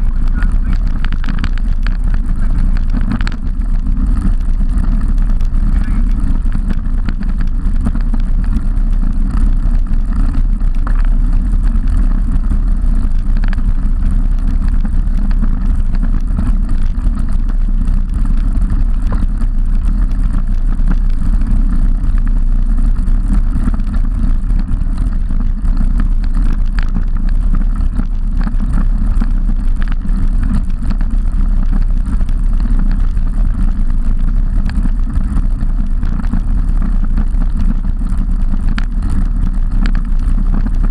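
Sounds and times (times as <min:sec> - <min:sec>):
faint ticks: 0:00.0 - 0:40.9
tyres humming on tarmac: 0:00.0 - 0:40.9
wind buffeting microphone: 0:00.0 - 0:40.9.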